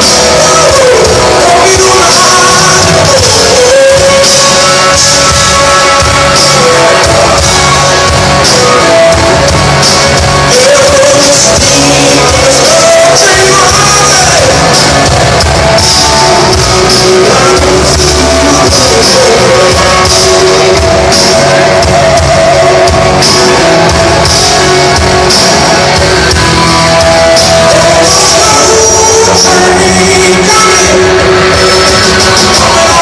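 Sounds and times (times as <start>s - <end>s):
blues-rock band playing: 0.0s - 33.0s.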